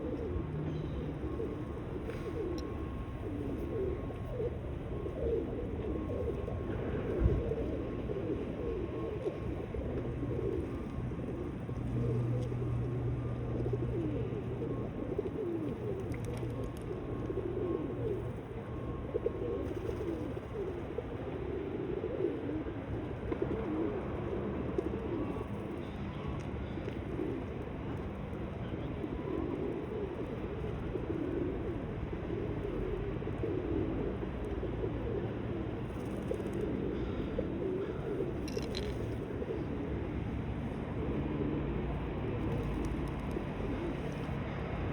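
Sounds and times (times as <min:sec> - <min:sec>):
pigeons cooing: 0:00.0 - 0:44.9.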